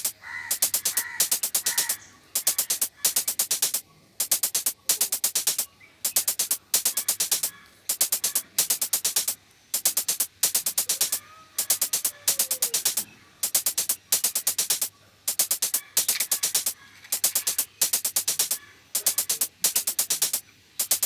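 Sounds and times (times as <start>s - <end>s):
electronic music with drum machine: 0.0s - 21.0s.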